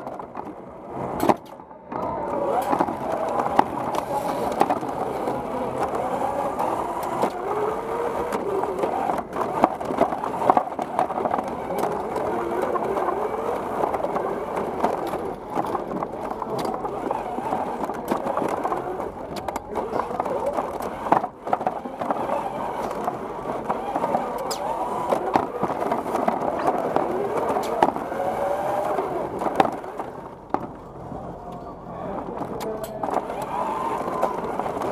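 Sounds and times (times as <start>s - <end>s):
wheels rolling rumble: 0.0s - 34.9s
robot motors whining: 1.0s - 34.9s.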